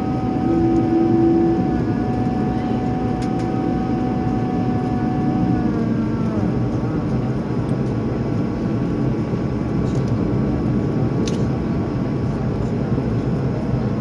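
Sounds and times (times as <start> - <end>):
faint engine whine: 0.0 - 14.0
jet engines rumbling in cabin: 0.0 - 14.0.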